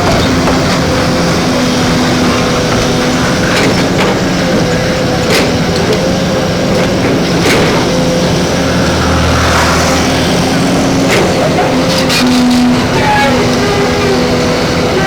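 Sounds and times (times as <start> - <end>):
backhoe loader engine running: 0.0 - 15.0.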